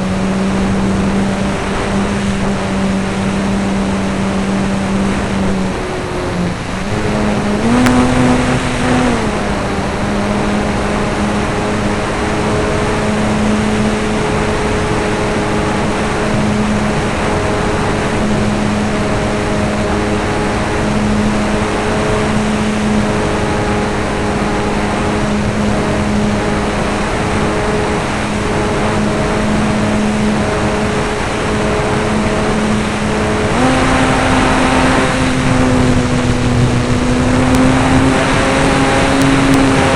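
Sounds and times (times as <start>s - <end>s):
model airplane motor drone: 0.0s - 39.9s.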